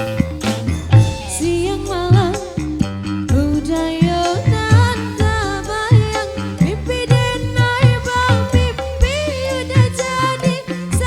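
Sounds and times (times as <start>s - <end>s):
drum and bass beat: 0.0s - 11.0s
gliding melody line: 0.0s - 11.0s.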